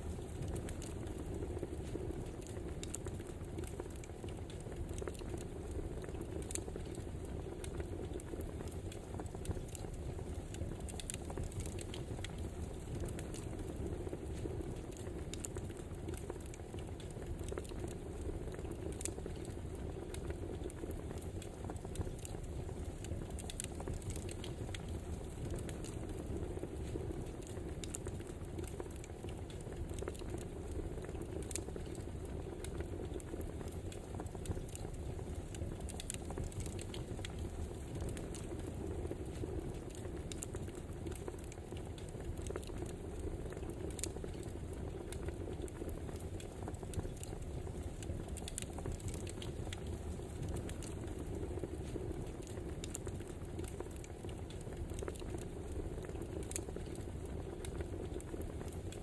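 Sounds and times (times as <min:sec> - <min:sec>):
fire pops and snaps: 0:00.0 - 0:59.0
wood fire crackling: 0:00.0 - 0:59.0.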